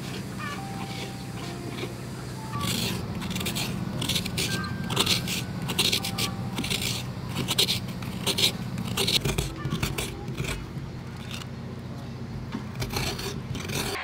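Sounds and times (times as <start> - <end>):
coconut scraper rasping: 0.0 - 14.0.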